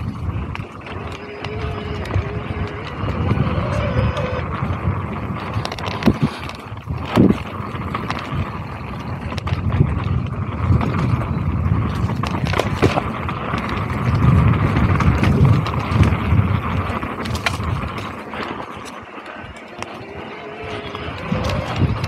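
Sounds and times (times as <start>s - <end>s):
bike rattling over bumps: 0.0s - 22.0s
bike tyres rolling over dirt: 0.0s - 22.0s.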